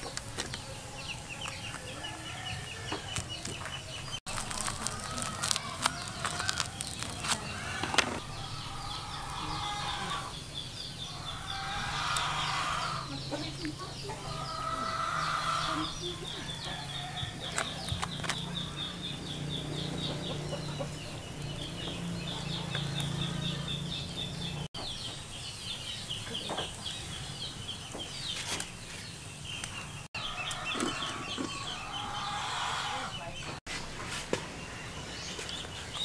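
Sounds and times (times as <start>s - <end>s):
high chirping: 0.0s - 33.6s
chickens clucking: 0.0s - 36.0s.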